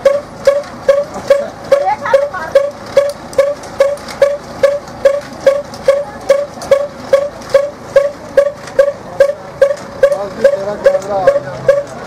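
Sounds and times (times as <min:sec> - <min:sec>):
machine knocking with ringing note: 0:00.0 - 0:12.0.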